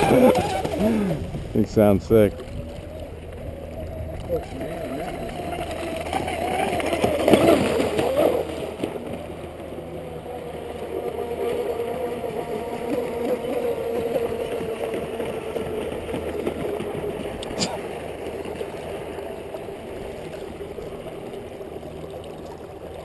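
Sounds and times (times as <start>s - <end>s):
electric boat motor whining: 0.0s - 23.0s
water rushing: 0.0s - 23.0s.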